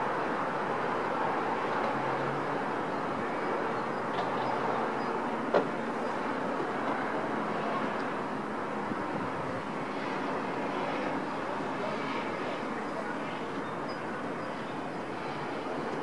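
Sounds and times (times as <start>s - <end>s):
distant city traffic hum: 0.0s - 16.0s.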